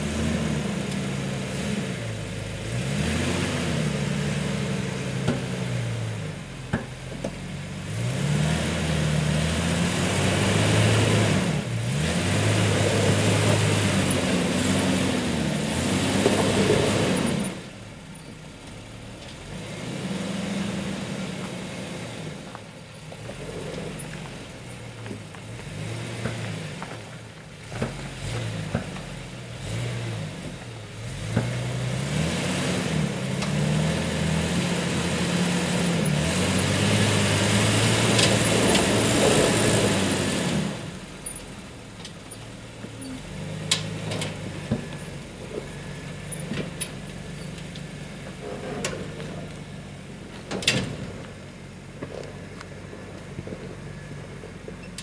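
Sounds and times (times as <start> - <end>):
engine revving under load: 0.0 - 18.0, 18.9 - 55.0.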